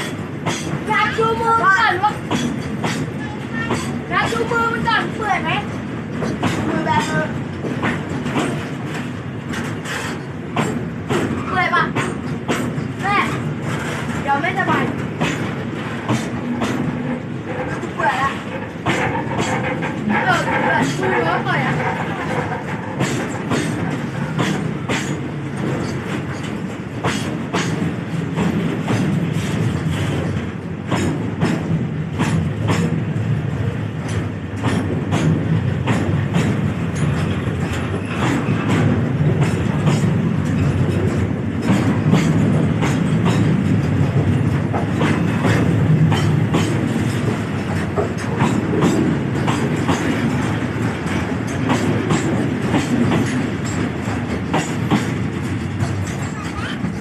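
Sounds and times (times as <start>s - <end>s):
train rumble: 0.0s - 57.0s
train wheels clickety-clack: 0.0s - 57.0s.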